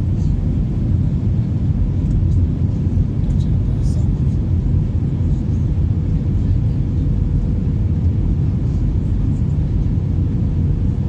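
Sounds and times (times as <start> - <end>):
faint constant hum: 0.0 - 11.0
jet engine rumble: 0.0 - 11.0.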